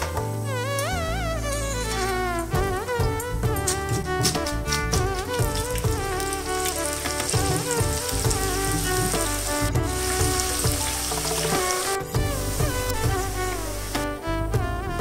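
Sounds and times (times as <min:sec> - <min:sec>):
food sizzling in hot oil: 0:00.0 - 0:14.1
background music: 0:00.0 - 0:15.0.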